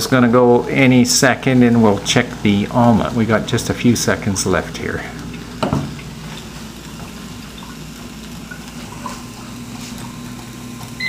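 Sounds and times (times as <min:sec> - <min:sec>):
food bubbling and sizzling: 0:00.0 - 0:11.0.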